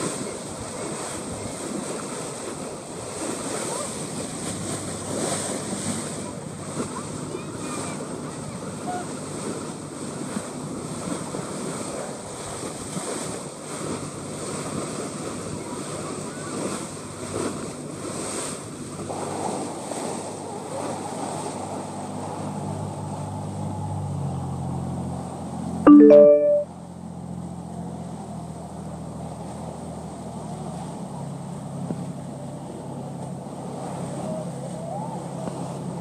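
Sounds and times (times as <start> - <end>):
boat engine hum: 0.0 - 36.0
water rushing along hull: 0.0 - 36.0.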